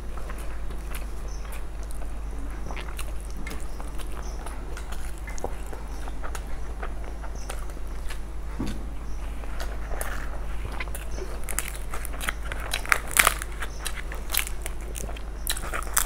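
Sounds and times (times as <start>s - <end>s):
steady low hum: 0.0s - 16.0s
wet chewing: 0.0s - 16.0s.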